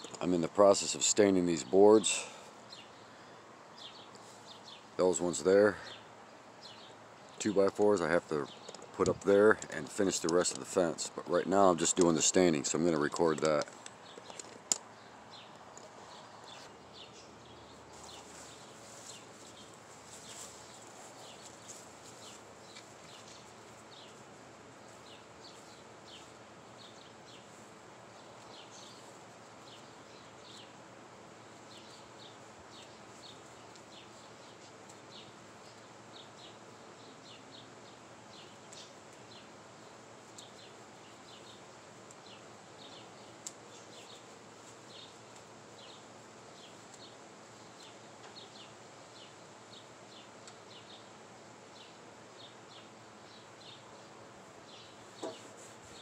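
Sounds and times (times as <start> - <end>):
birds chirping: 0.0 - 56.0
faint steady hiss: 0.0 - 56.0.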